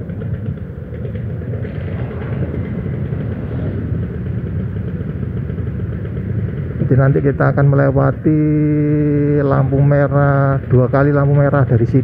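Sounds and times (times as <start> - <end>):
engines idling in traffic: 0.0 - 12.0.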